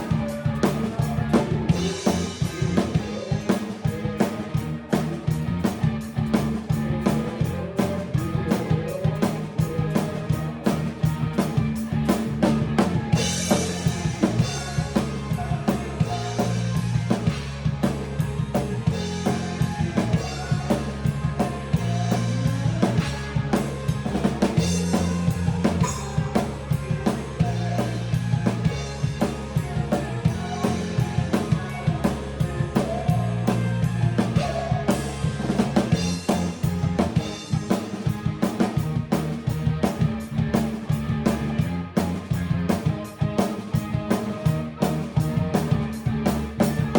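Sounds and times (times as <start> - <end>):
bass line: 0.0 - 46.9
drum kit beat: 0.0 - 46.9.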